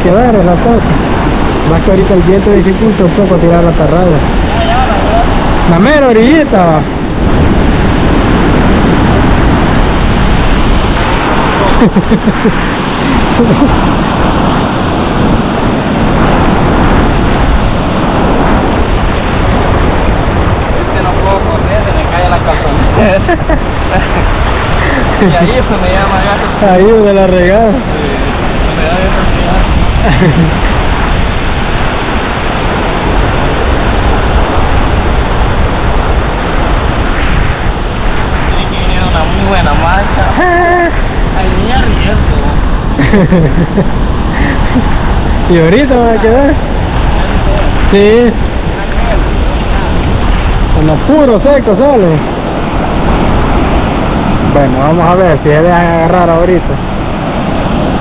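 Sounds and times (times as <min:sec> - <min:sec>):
surf washing: 0:00.0 - 0:58.0
wind buffeting microphone: 0:00.0 - 0:58.0.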